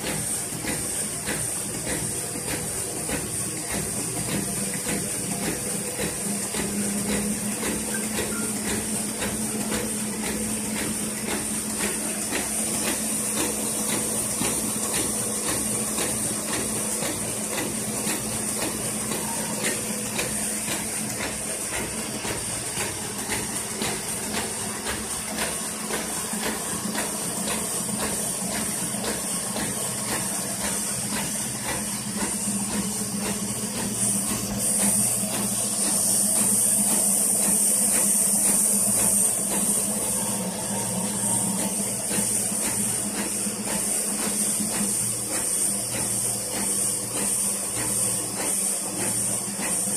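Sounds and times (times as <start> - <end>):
printing press humming: 0.0 - 49.9.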